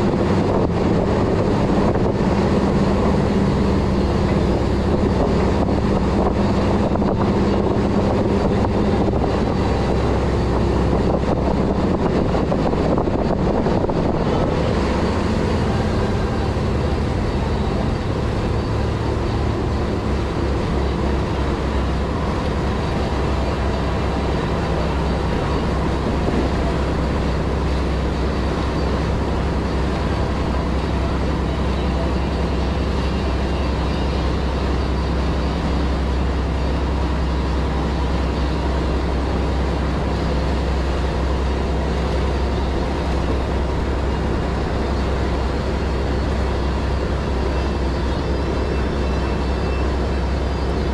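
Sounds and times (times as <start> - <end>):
boat engine droning: 0.0 - 50.9
rushing water noise: 0.0 - 50.9.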